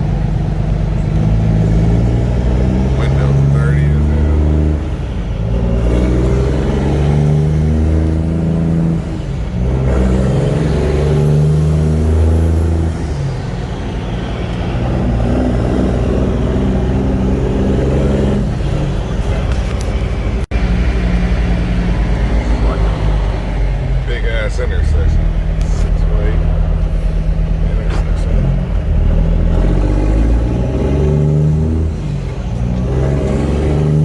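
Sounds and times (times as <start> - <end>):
diesel truck engine revving: 0.0 - 34.0.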